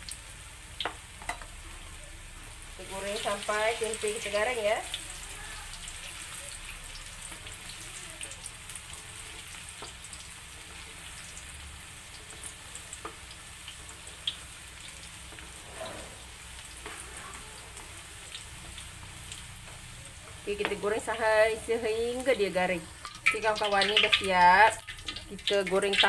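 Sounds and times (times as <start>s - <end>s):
food deep-frying in oil: 0.0s - 26.0s.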